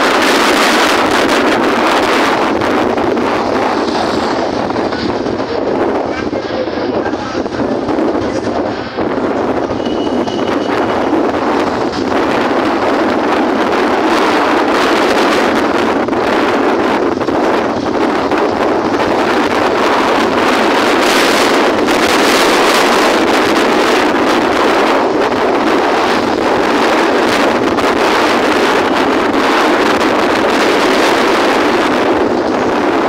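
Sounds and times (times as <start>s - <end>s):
vehicle noise: 0.0s - 33.0s
wind rush on microphone: 0.0s - 33.0s.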